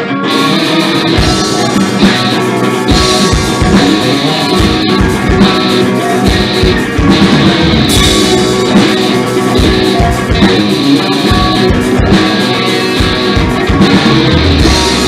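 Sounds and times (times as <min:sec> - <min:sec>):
electric guitars: 0:00.0 - 0:15.0
drum kit hits: 0:00.2 - 0:15.0.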